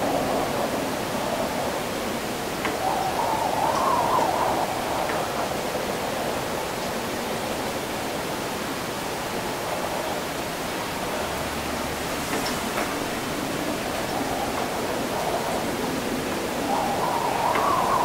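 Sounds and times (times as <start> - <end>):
wind hiss: 0.0 - 18.0.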